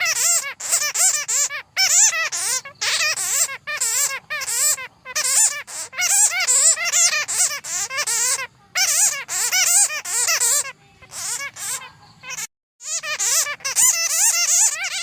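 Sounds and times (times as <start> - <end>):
bats squeaking and chattering: 0.0 - 15.0.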